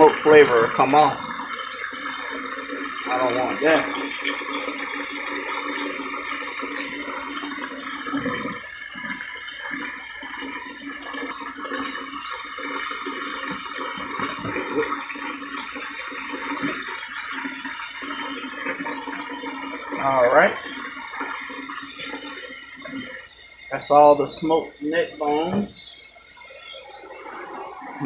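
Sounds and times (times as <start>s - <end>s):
kitchen tap running: 0.0s - 28.0s.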